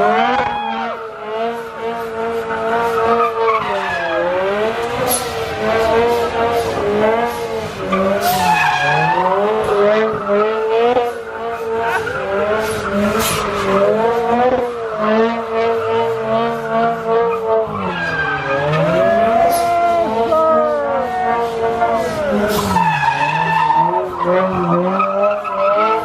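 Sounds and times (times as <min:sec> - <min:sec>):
car engine revving: 0:00.0 - 0:26.0
tyres squealing on pavement: 0:00.0 - 0:26.0.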